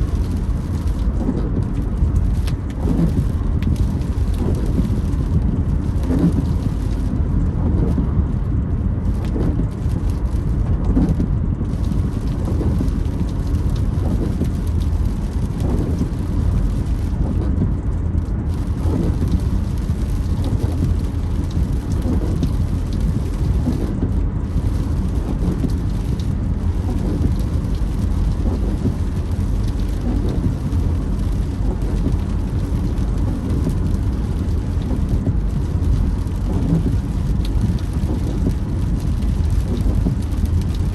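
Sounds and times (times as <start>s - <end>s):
rain drumming on car: 0.0s - 40.9s
road and tyre noise: 0.0s - 40.9s
windscreen wipers creaking: 0.0s - 40.9s.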